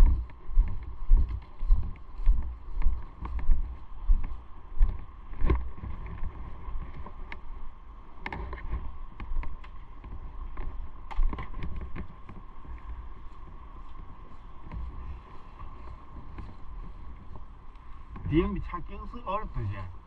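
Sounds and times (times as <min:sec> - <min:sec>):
motorcycle engine hum: 0:00.0 - 0:20.0
wind buffeting microphone: 0:00.0 - 0:20.0.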